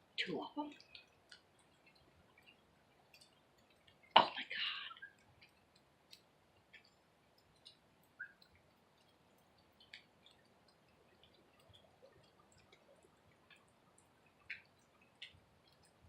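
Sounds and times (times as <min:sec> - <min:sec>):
faint ticks: 0:00.7 - 0:16.0.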